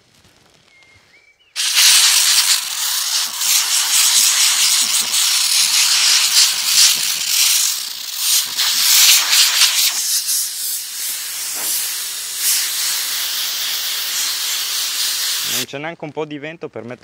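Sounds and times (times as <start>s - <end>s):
compressed air blow gun hissing: 1.6s - 15.7s.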